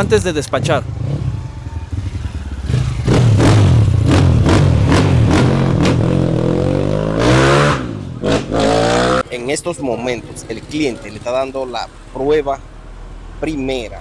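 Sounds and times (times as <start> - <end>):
motorcycle engine accelerating: 0.0 - 11.7.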